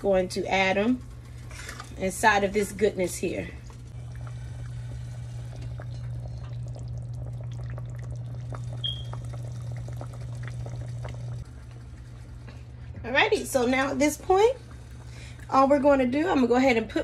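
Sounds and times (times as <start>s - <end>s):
stew bubbling in a pot: 0.3s - 17.0s.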